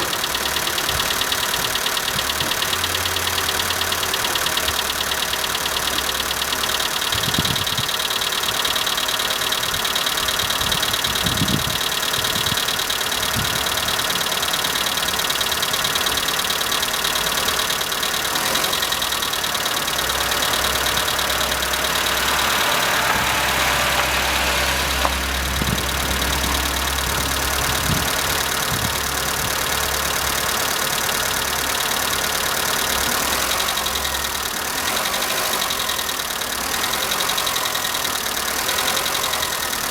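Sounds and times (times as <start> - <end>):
car engine idling: 0.0 - 39.9
valvetrain ticking: 0.0 - 39.9.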